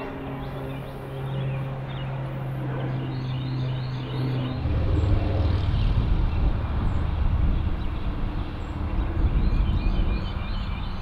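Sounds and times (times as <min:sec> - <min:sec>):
birds chirping: 0:00.0 - 0:11.0
small airplane flying overhead: 0:00.0 - 0:11.0.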